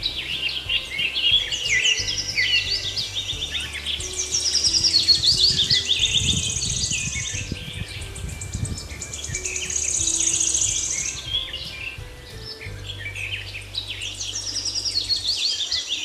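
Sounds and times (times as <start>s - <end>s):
birds chirping: 0.0s - 16.0s
high rapid bird trills: 0.0s - 16.0s.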